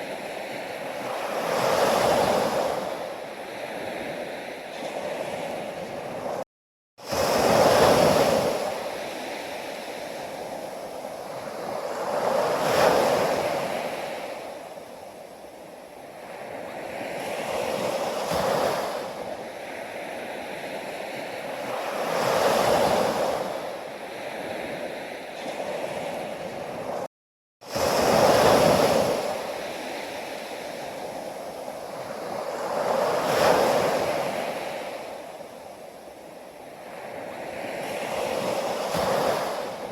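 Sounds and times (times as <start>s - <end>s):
sea waves breaking on shore: 0.0s - 6.4s, 7.0s - 39.9s.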